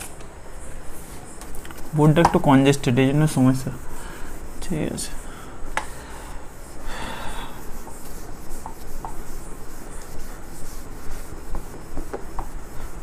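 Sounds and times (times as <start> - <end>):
cloth rubbing on whiteboard: 0.9 - 13.0.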